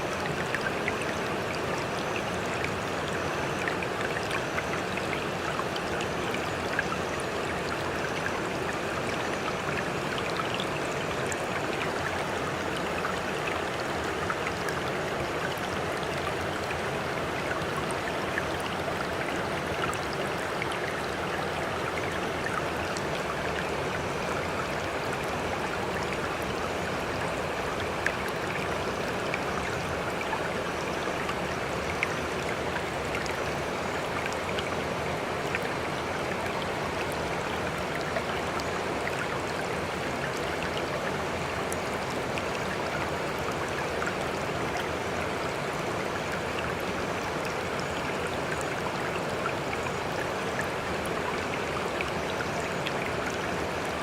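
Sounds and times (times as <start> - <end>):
sea water noise: 0.0 - 54.0.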